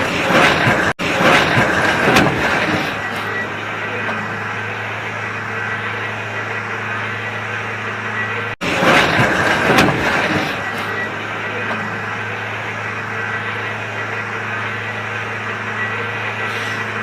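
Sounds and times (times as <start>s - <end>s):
loud rough noise: 0.0s - 17.0s
vehicle engine humming: 0.0s - 17.0s.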